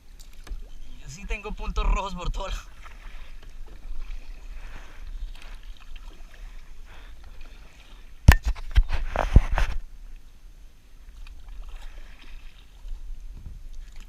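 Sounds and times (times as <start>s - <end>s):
water swishing around paddle: 0.0s - 14.0s.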